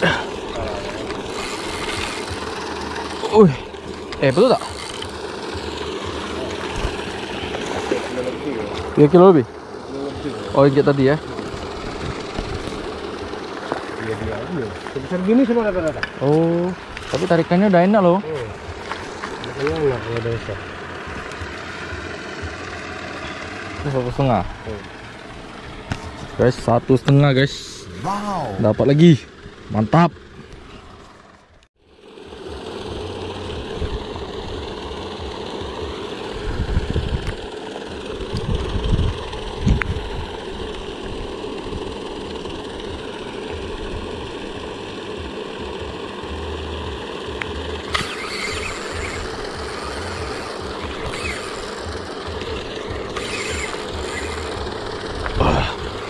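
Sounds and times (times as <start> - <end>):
pond aerator motor hum: 0.0 - 56.0.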